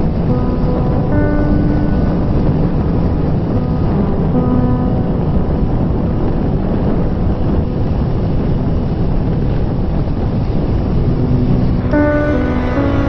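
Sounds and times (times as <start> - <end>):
motorcycle wind and road noise: 0.0 - 13.0
wind buffeting microphone: 0.0 - 13.0.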